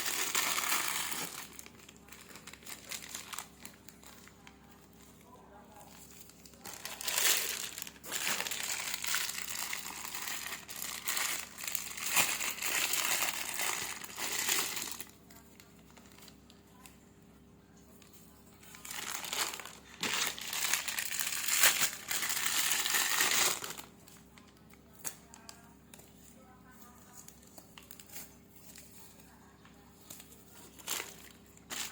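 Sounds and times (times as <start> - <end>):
packaging crinkling: 0.0 - 16.8, 18.6 - 25.6, 30.0 - 31.9.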